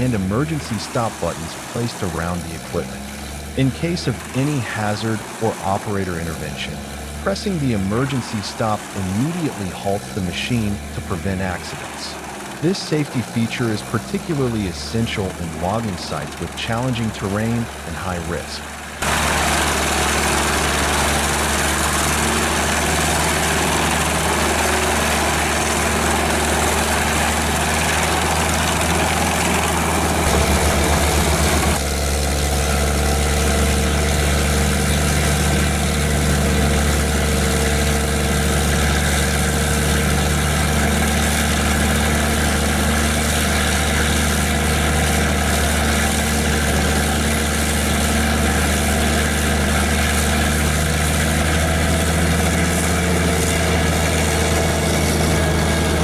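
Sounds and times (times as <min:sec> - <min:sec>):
wood chipper engine running: 0:00.0 - 0:56.0
wood grinding in chipper: 0:00.0 - 0:56.0.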